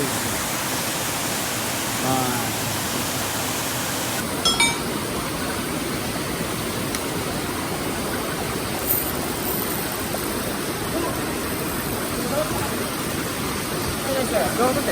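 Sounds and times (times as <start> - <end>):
mountain stream flowing: 0.0 - 14.9.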